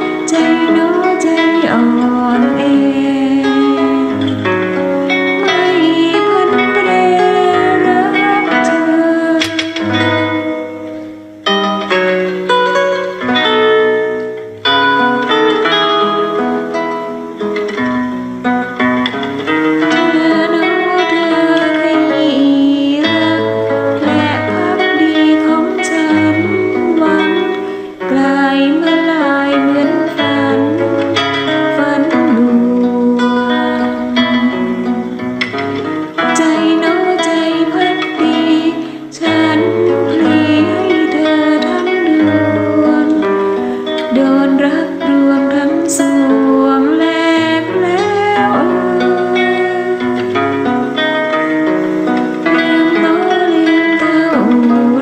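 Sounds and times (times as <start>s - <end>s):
person singing slow melody: 0.0s - 12.0s, 19.8s - 51.2s, 52.4s - 55.0s
fingerstyle acoustic guitar: 0.0s - 55.0s.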